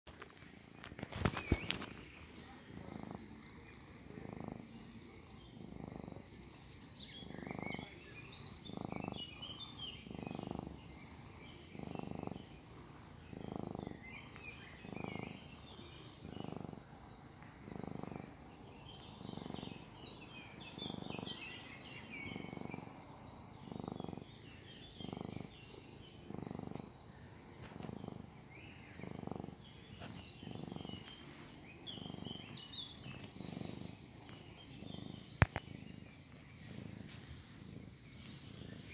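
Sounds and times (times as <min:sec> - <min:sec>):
cat purring: 0:00.1 - 0:38.9
small birds chirping: 0:00.1 - 0:38.9.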